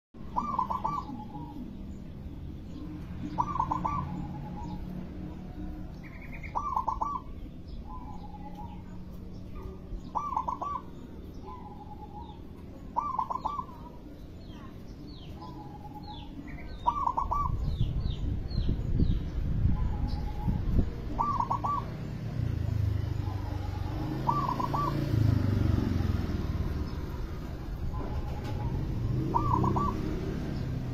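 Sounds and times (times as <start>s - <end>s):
dove cooing: 0.2s - 18.1s, 19.7s - 30.9s
small birds chirping: 0.2s - 30.9s.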